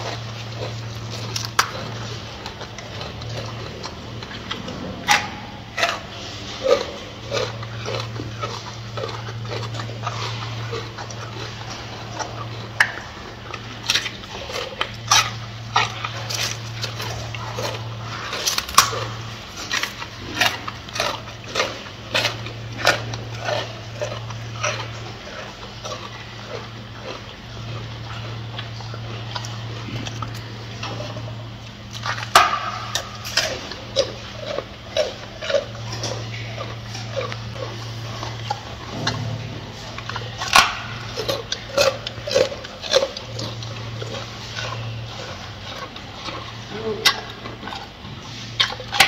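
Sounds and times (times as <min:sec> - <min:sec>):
gorilla chewing lettuce: 0:00.0 - 0:49.0
steady low hum: 0:00.0 - 0:49.0.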